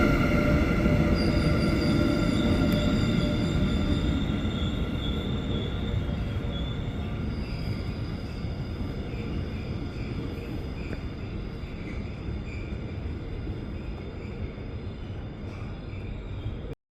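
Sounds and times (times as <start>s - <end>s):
train rumbling on tracks: 0.0s - 16.8s.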